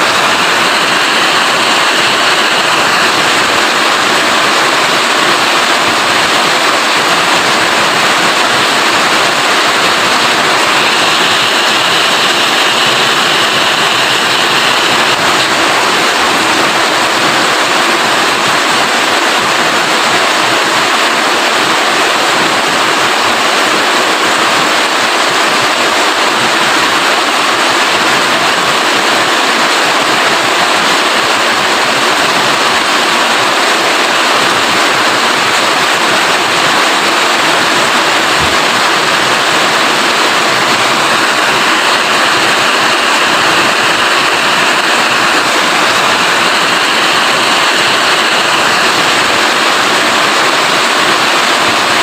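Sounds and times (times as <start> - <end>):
heavy rain hissing: 0.0 - 52.0.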